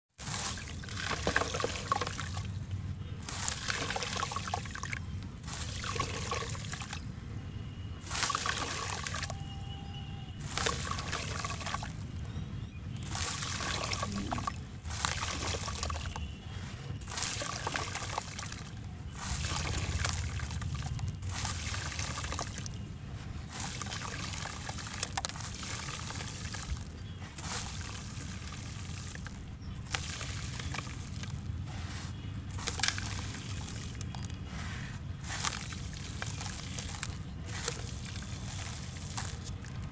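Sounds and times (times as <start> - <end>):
wet sand trickling into water: 0.2 - 7.1, 8.0 - 39.9.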